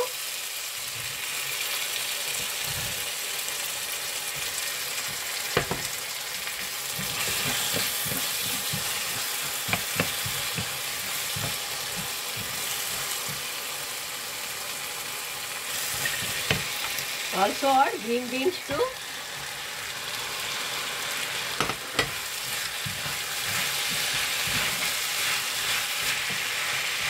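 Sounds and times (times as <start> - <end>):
potato sizzling in hot oil: 0.0 - 27.0.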